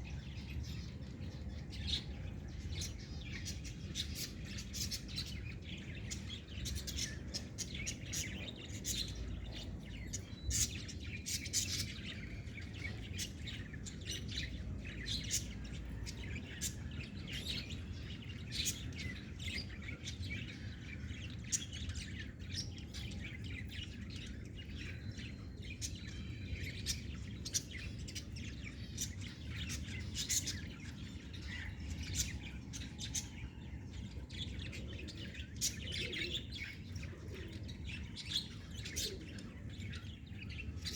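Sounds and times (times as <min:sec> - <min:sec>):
low steady background noise: 0:00.0 - 0:40.9
small birds chirping: 0:00.0 - 0:40.9.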